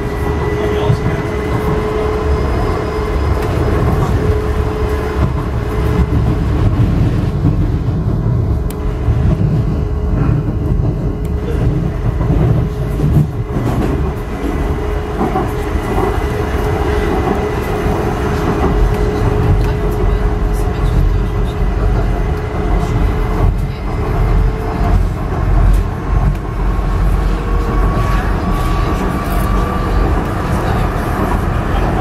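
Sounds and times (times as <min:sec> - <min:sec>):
constant train whine: 0:00.0 - 0:32.0
train wheels rumbling on track: 0:00.0 - 0:32.0.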